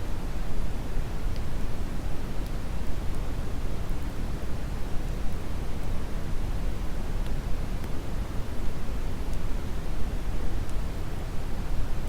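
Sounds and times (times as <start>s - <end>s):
brown noise rushing hiss: 0.0s - 12.0s.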